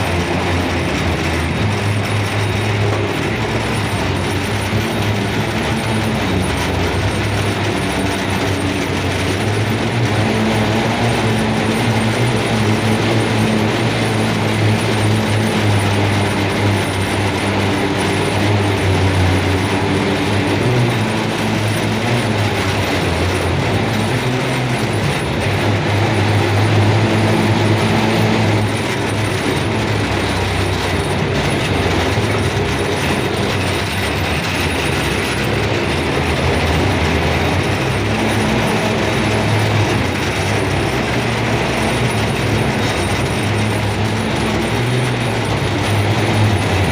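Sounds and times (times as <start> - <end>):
low engine hum: 0.0 - 46.9
train rumbling on rails: 0.0 - 46.9.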